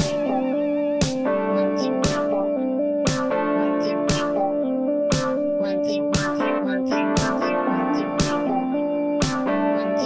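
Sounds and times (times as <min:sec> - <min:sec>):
plucked guitar over electronic beat: 0:00.0 - 0:10.0.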